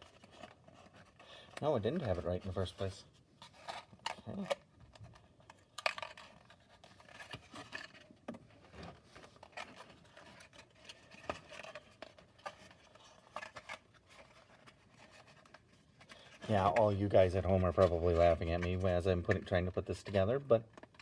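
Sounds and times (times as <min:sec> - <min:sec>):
toy parts clicking and scraping: 0:00.0 - 0:08.6, 0:09.3 - 0:21.0.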